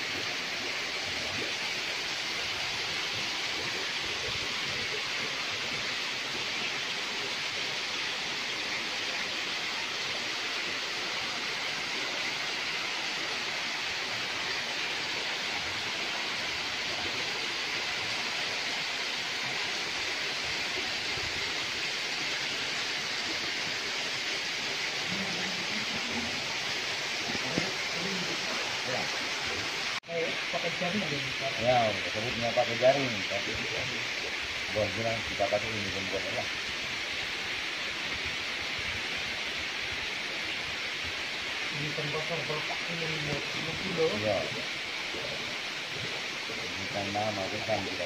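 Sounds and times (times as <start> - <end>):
stream rushing over stones: 0.0 - 48.0.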